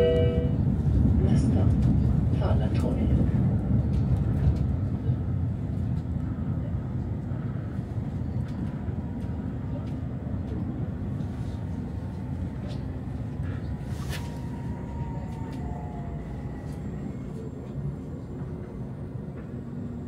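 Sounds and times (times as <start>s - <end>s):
tram wheels rumbling: 0.0s - 20.0s.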